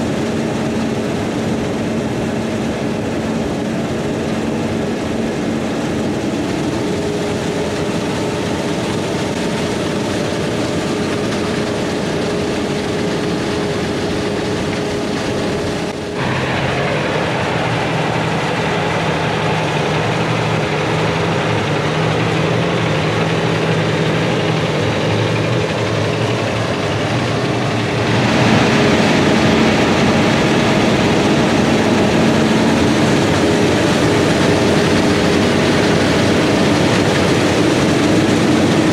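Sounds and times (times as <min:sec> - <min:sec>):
diesel farm machinery droning: 0:00.0 - 0:38.9.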